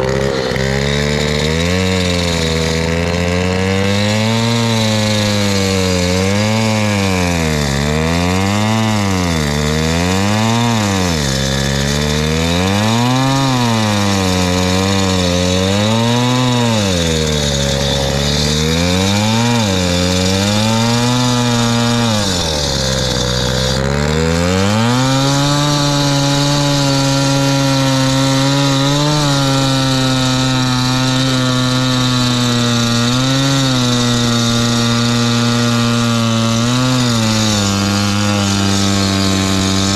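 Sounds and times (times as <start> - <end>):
cut-off saw cutting asphalt: 0.0 - 39.9.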